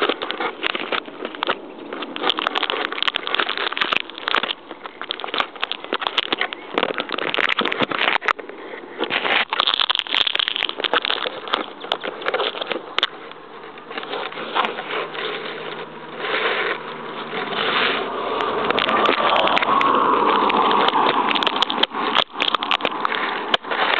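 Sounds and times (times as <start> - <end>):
sharp crackling clicks: 0.0 - 23.9.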